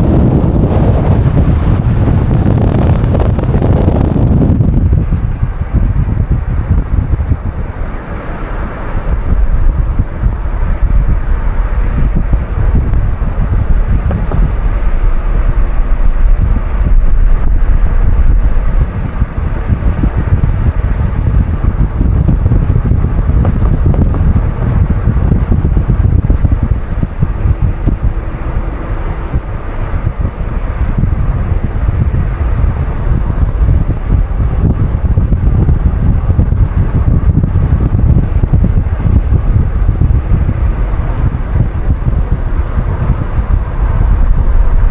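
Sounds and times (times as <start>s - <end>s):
car driving rumble: 0.0s - 44.9s
wind buffeting microphone: 0.0s - 44.9s.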